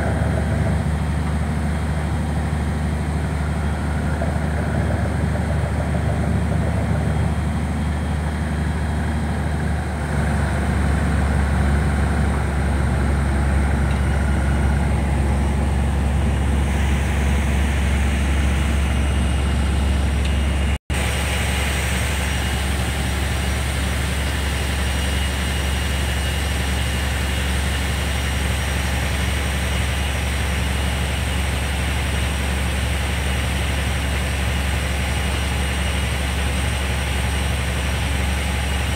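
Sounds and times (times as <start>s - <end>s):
boat diesel engine droning: 0.0s - 38.9s.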